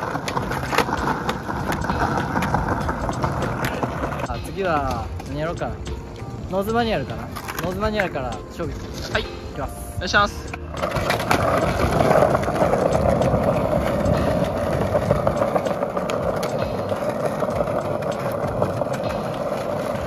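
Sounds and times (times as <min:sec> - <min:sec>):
skateboard clicks: 0:00.0 - 0:09.2, 0:10.4 - 0:20.0
skateboard wheels rolling on stone: 0:00.0 - 0:09.3, 0:10.1 - 0:20.0.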